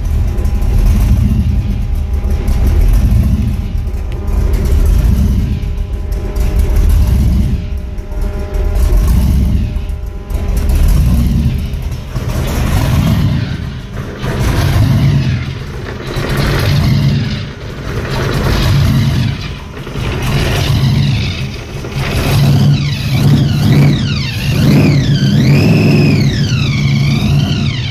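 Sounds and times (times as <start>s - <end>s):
car engine revving: 0.0s - 27.9s
supercharger whine: 0.0s - 27.9s.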